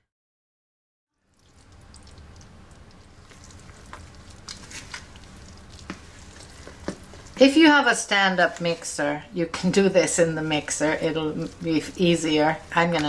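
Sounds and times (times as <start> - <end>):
low steady hum: 1.1 - 13.0
hand squishing dough: 1.3 - 13.0.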